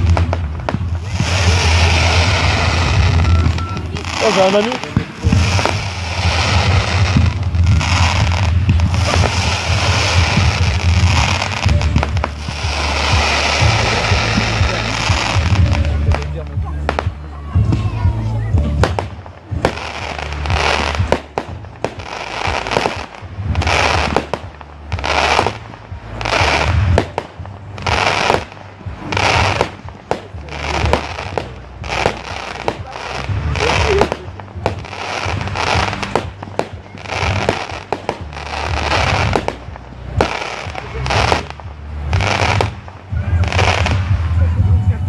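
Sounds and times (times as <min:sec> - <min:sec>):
fireworks bursting with hiss: 0:00.0 - 0:45.0
music with bass line: 0:00.0 - 0:45.0.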